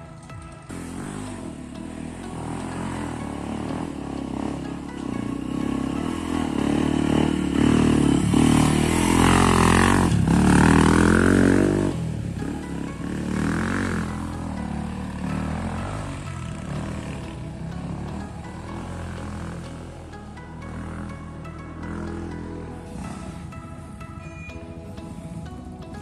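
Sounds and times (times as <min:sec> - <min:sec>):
off-road motorcycle engine revving: 0:00.0 - 0:26.0.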